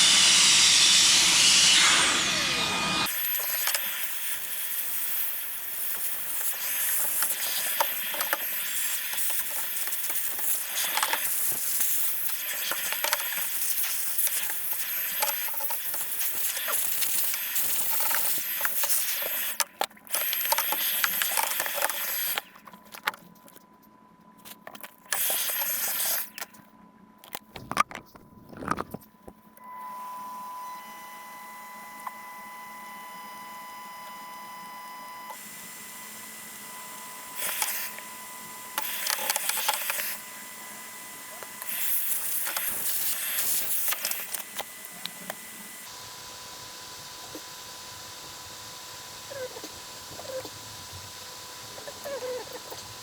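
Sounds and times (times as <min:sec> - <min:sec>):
cordless cleaning tool running: 0:00.0 - 0:22.6, 0:29.7 - 0:53.0.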